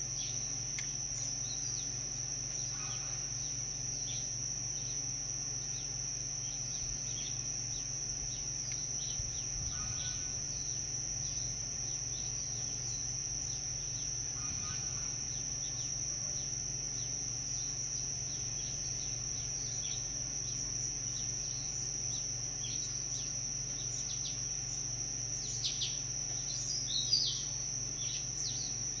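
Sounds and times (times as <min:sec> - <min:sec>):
insect chorus: 0:00.0 - 0:29.0
bird chirps: 0:01.2 - 0:05.0, 0:05.6 - 0:29.0.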